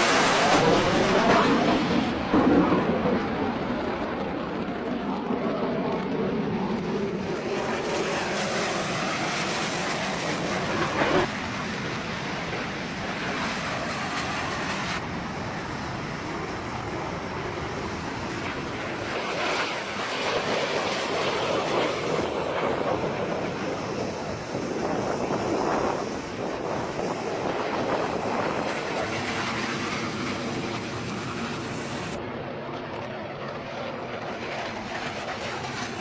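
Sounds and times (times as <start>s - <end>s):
jet fighter flying past: 0.0s - 36.0s.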